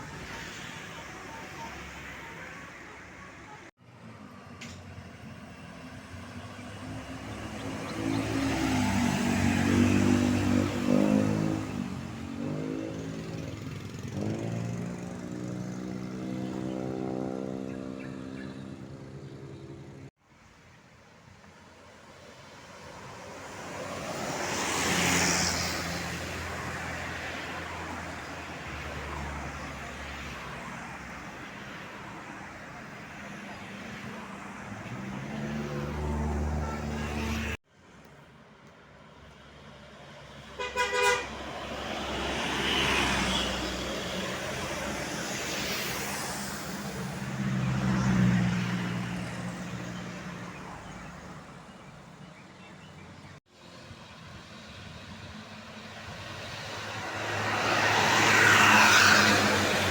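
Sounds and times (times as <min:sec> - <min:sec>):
bus engine passing: 0:00.0 - 0:20.1, 0:22.1 - 0:37.6, 0:39.4 - 0:59.9.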